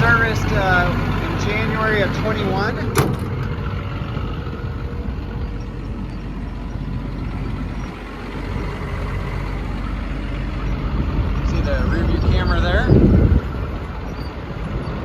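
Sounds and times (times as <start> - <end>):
excavator diesel engine idling: 0.0 - 15.0.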